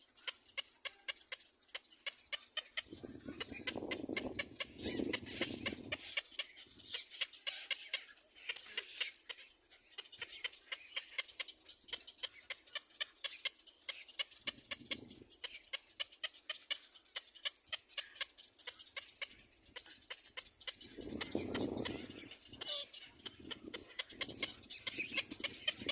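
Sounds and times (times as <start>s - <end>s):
fledgling bird begging chirps: 0.0s - 25.9s.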